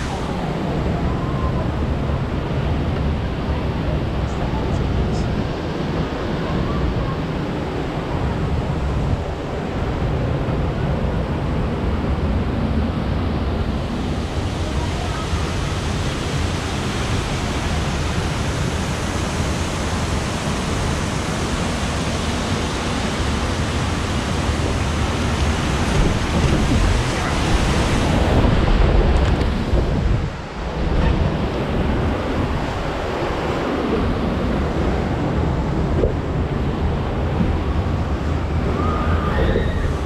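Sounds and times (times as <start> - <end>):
churning water rushing: 0.0 - 40.0.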